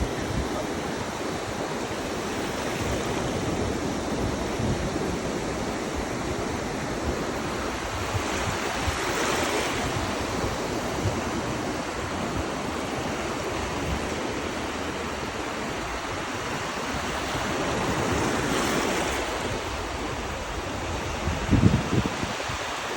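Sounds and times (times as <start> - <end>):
waves breaking on shore: 0.0 - 22.9.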